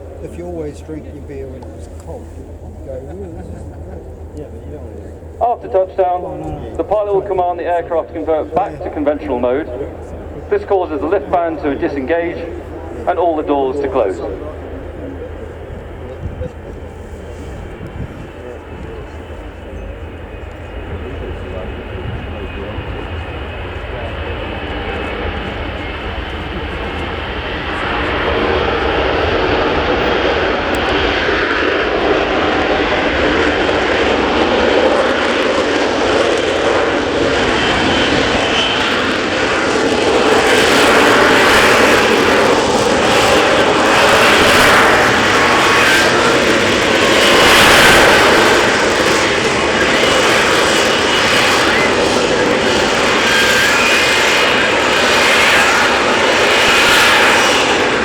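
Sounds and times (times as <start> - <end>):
jet engine roaring: 0.0 - 58.0.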